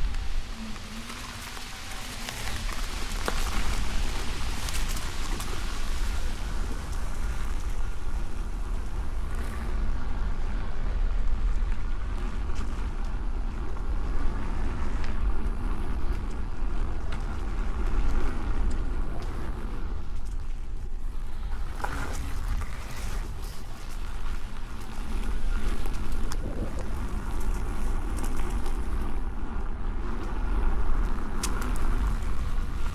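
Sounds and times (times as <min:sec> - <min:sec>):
wind rumbling on microphone: 0:00.0 - 0:32.9.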